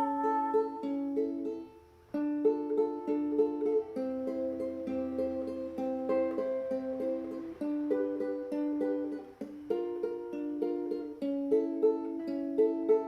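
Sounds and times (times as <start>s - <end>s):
acoustic string instrument strumming: 0.0s - 13.0s.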